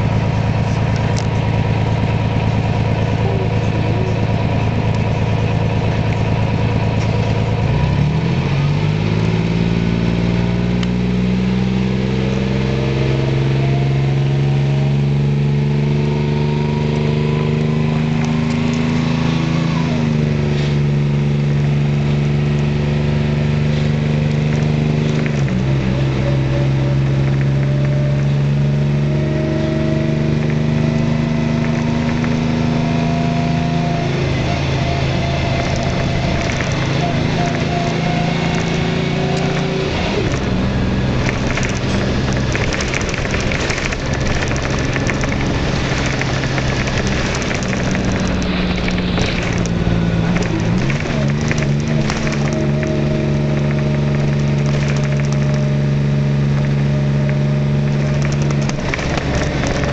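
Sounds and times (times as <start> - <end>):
bus diesel engine: 0.0 - 59.9.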